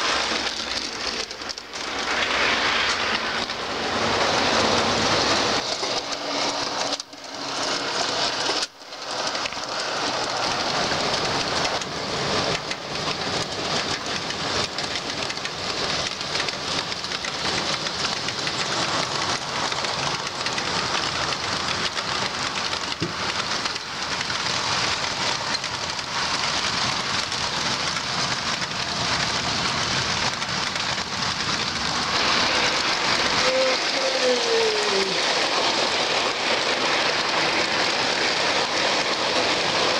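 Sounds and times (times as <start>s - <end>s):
model train wheels rolling on rail: 0.0s - 39.9s.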